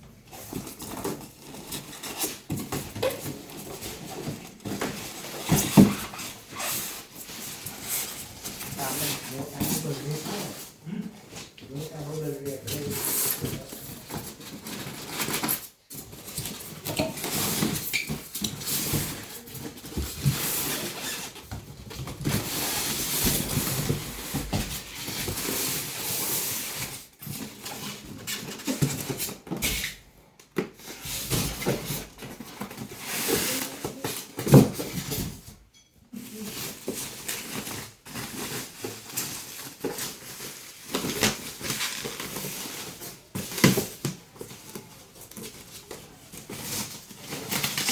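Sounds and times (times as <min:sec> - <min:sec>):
packaging rustling and scraping: 0:00.0 - 0:47.9.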